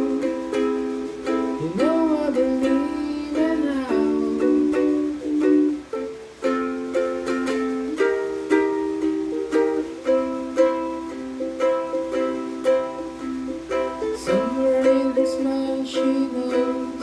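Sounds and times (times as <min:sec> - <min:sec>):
ukulele strumming chords: 0:00.0 - 0:17.0.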